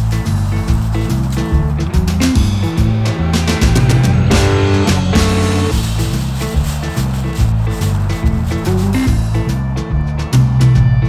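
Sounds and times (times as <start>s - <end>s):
electric guitar: 0.0s - 9.5s
drum kit: 0.0s - 11.0s
rock music: 0.0s - 11.0s.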